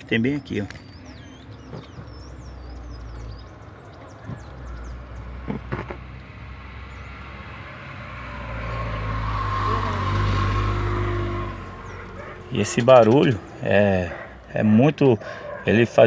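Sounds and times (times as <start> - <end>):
motor vehicle rumbling: 0.0 - 16.0
small birds chirping: 0.0 - 16.0.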